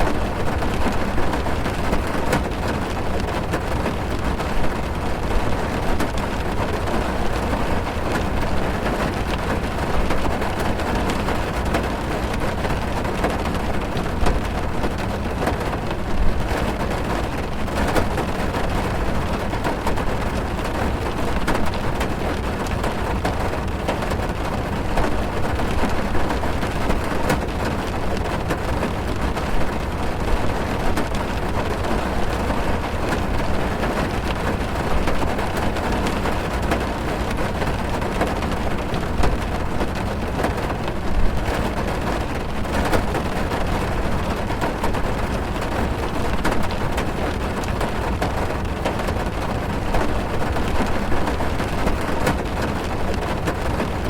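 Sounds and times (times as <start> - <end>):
rain drumming on car roof: 0.0 - 54.0.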